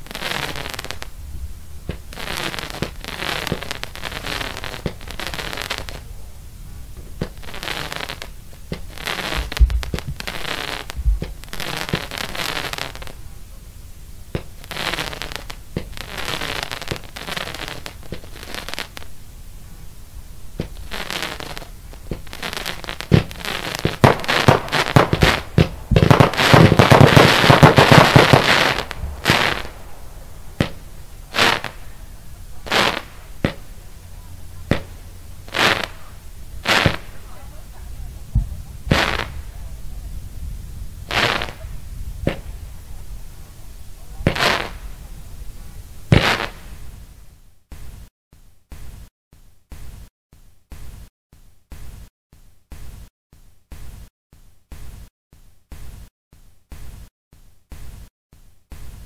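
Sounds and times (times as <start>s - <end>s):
fireworks firing with crackle: 0.0s - 48.1s, 48.7s - 49.1s, 49.7s - 50.1s, 50.7s - 51.1s, 53.7s - 54.1s, 55.7s - 56.1s, 57.7s - 58.1s, 58.7s - 59.0s.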